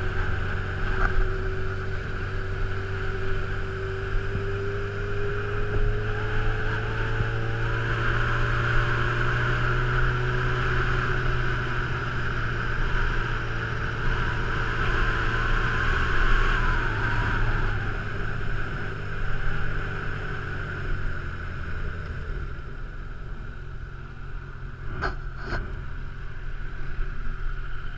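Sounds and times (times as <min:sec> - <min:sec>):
wind and road noise: 0:00.0 - 0:27.9.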